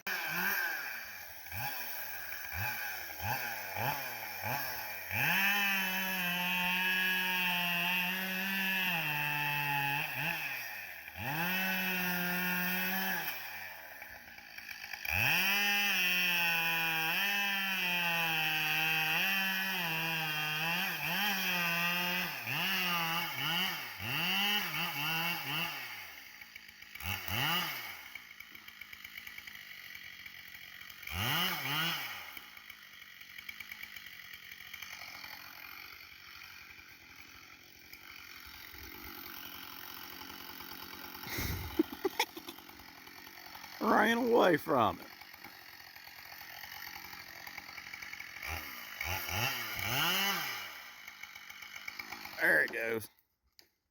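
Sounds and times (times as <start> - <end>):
chainsaw revving and idling: 0.0 - 53.9.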